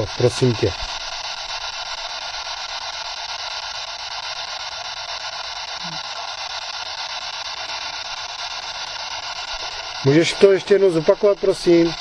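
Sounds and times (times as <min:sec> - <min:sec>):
fluttering radio static: 0:00.0 - 0:12.0.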